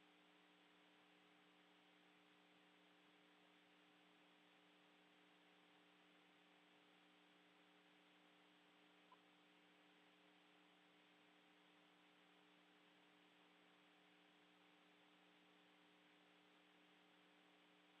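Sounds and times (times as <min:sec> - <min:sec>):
faint radio hiss and hum: 0:00.0 - 0:18.0.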